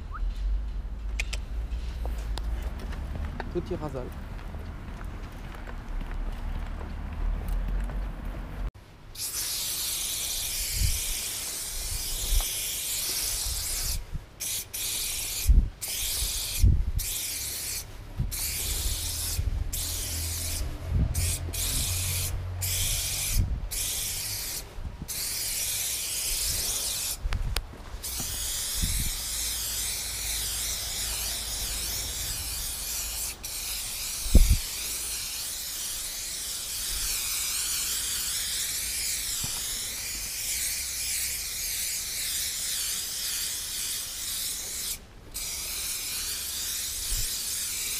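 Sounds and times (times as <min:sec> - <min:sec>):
spray paint can hissing: 0:09.1 - 0:47.9.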